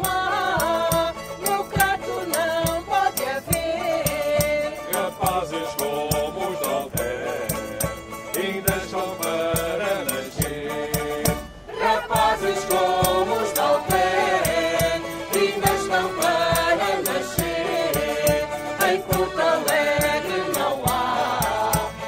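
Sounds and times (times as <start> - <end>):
melody over percussion beat: 0.1 - 22.0.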